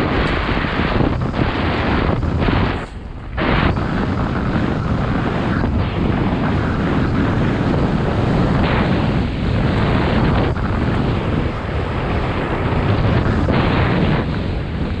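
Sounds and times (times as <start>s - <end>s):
bike tyres rumbling over gravel: 0.0s - 15.0s
wind buffeting microphone: 0.0s - 15.0s.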